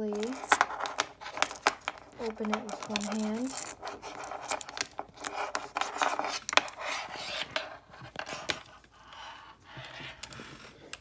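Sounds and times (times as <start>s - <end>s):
cable rubbing and rustling: 0.0s - 11.0s.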